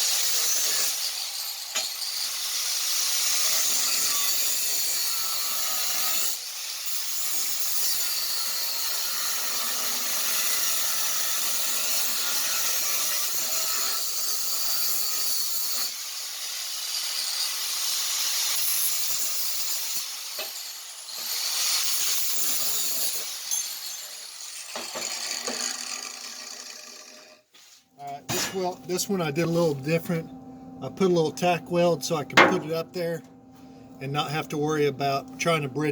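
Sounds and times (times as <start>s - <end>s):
power tool grinding steel: 0.0s - 27.5s, 30.9s - 33.2s.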